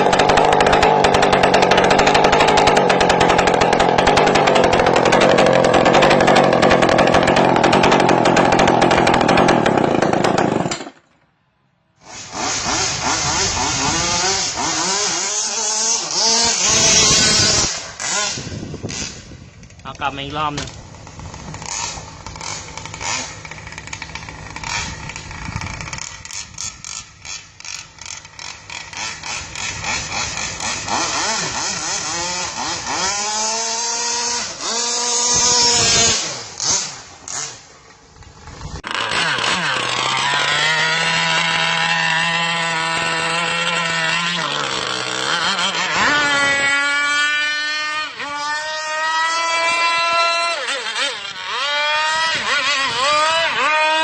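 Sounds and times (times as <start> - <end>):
two-stroke engine revving: 0.0 - 11.0, 12.0 - 54.0.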